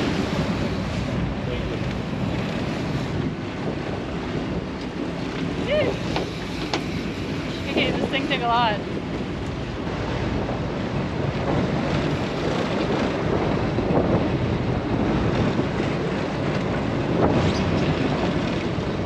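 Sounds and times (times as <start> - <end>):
waves and wake churning: 0.0 - 19.0
wind buffeting microphone: 0.0 - 19.0.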